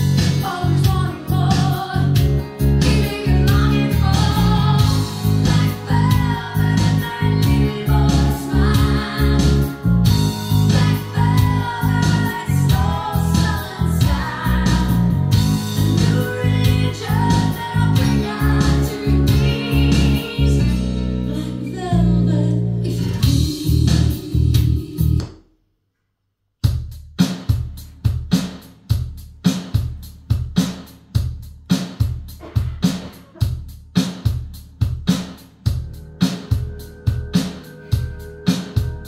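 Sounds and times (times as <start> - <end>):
steady beat: 0.0 - 20.7, 26.6 - 39.0
recorded music through speakers: 0.0 - 25.3, 26.6 - 39.0.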